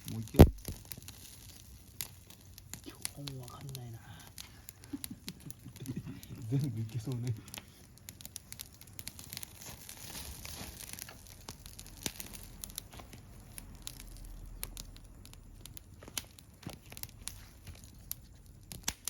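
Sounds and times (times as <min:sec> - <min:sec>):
campfire crackling and popping: 0:00.0 - 0:19.0
meat sizzling on grill: 0:00.0 - 0:19.0.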